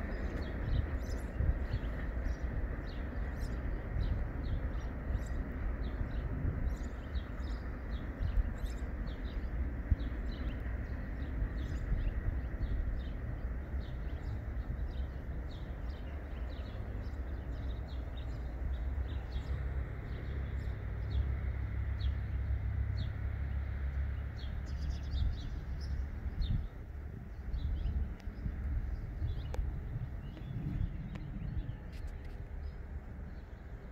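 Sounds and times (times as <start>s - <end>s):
distant freight train rumble: 0.0s - 33.9s
small birds chirping: 0.0s - 33.9s.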